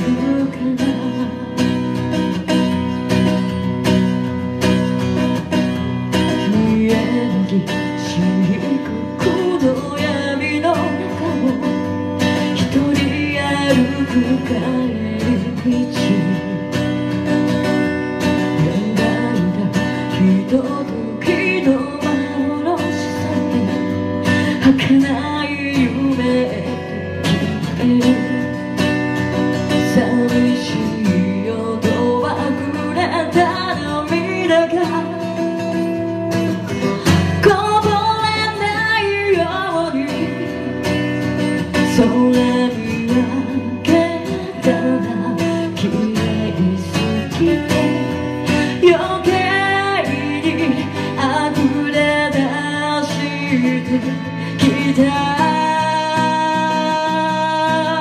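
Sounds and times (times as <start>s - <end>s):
strummed acoustic guitar: 0.0s - 58.0s
woman singing: 0.0s - 58.0s.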